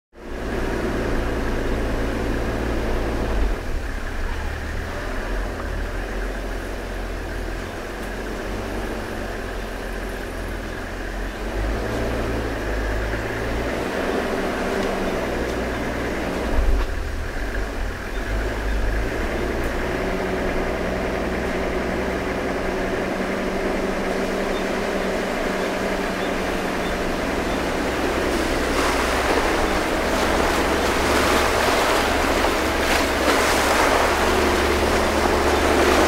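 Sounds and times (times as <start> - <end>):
vehicle engine running at low speed: 0.2 - 36.0.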